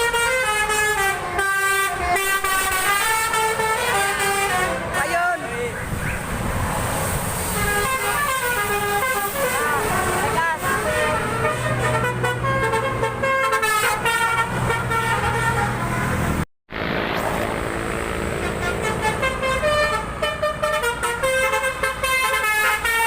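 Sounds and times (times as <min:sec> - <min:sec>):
multi-tone air horns playing a tune: 0:00.0 - 0:05.4, 0:07.5 - 0:16.4, 0:18.3 - 0:23.0.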